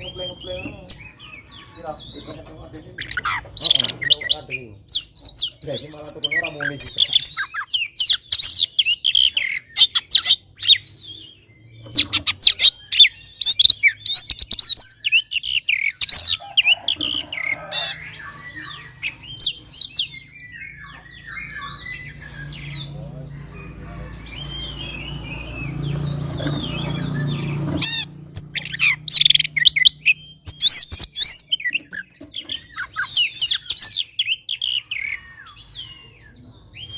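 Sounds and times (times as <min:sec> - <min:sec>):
bird singing chirps and whistles: 0:02.9 - 0:16.4, 0:17.9 - 0:23.0, 0:24.2 - 0:36.9.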